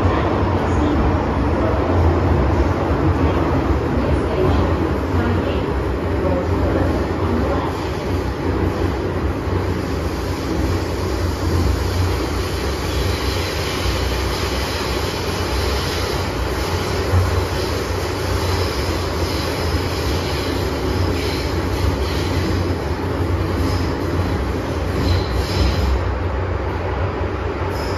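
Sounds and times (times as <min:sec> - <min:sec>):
metro train rumbling on track: 0:00.0 - 0:27.9.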